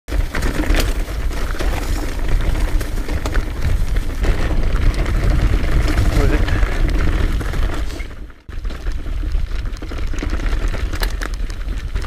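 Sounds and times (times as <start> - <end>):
bike clicks and rattles: 0.1 - 12.0
wind rumble on microphone: 1.3 - 12.0.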